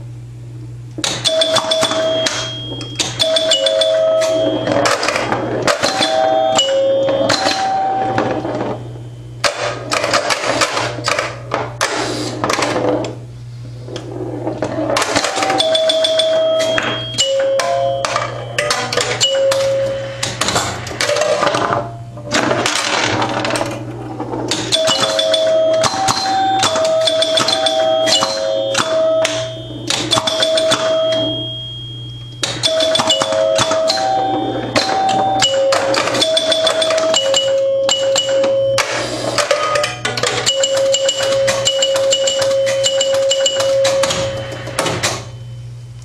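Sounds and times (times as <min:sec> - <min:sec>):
steady low hum: 0:00.0 - 0:46.0
pinball score chimes: 0:01.0 - 0:11.5, 0:14.1 - 0:45.6.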